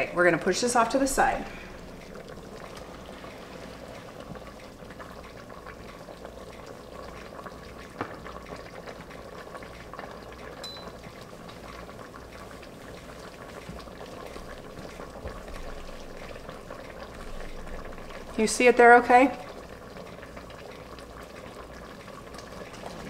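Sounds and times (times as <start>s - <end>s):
thick sauce bubbling: 0.0s - 23.0s.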